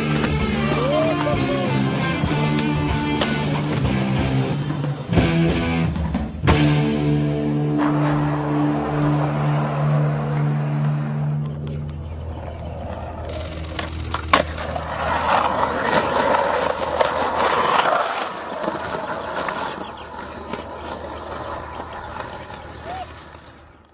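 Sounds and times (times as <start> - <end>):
skateboard wheels rolling on concrete: 0.0 - 23.9.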